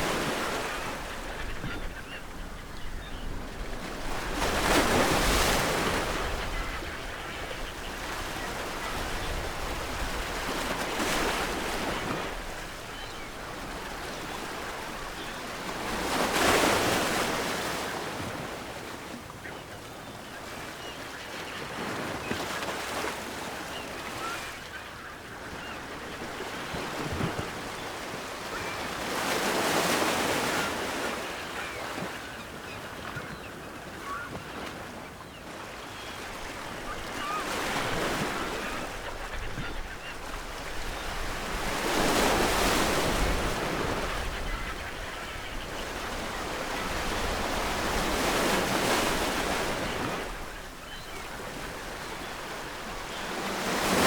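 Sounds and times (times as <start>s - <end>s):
distant seagull calls: 0.0s - 54.0s
ocean waves breaking on shore: 0.0s - 54.0s.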